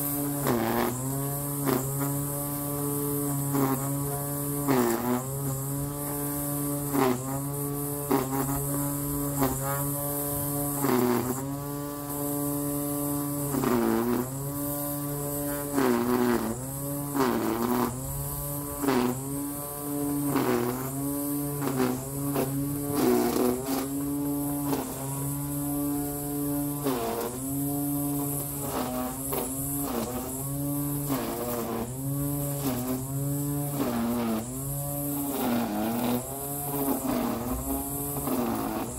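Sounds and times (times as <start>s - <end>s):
garden power tool motor: 0.0s - 38.9s.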